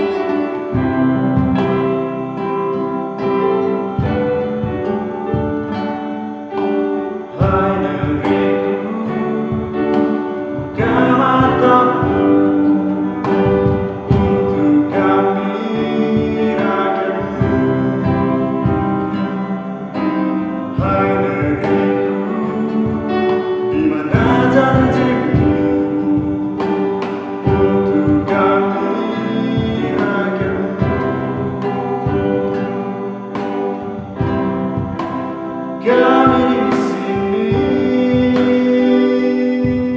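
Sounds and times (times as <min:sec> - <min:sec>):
acoustic guitar: 0:00.0 - 0:39.9
cajon beats: 0:00.0 - 0:39.9
keyboard: 0:00.0 - 0:39.9
man singing: 0:00.0 - 0:39.9.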